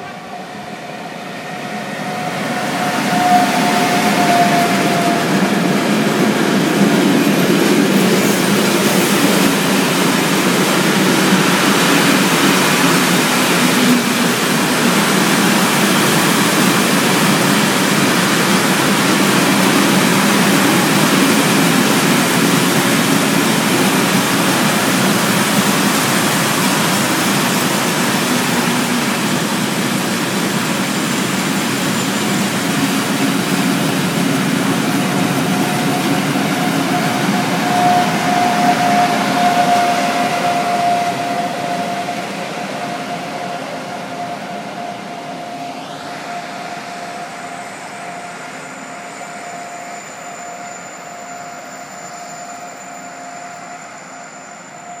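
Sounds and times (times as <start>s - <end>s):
train wheels rumbling: 0.0s - 50.1s
locomotive whine: 0.0s - 55.0s.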